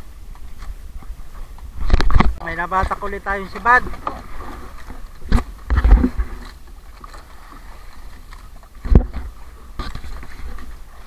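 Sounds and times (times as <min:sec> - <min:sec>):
hull thumping against waves: 0:00.0 - 0:11.0
water noise: 0:00.0 - 0:11.0
wind noise: 0:00.0 - 0:11.0.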